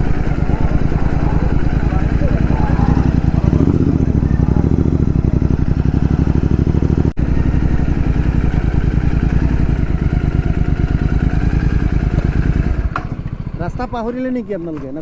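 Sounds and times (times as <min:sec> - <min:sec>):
motorcycle engine through open exhaust: 0:00.0 - 0:15.0.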